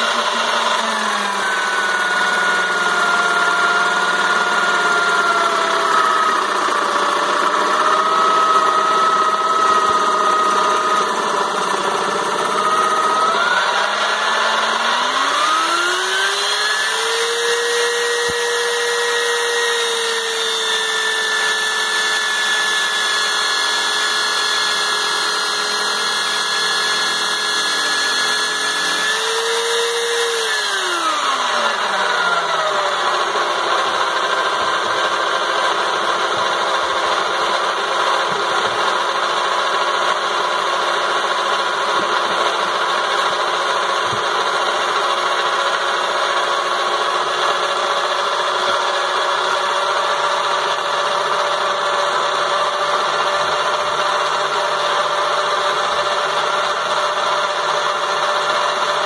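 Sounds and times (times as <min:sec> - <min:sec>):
lathe motor whining: 0:00.0 - 0:59.0.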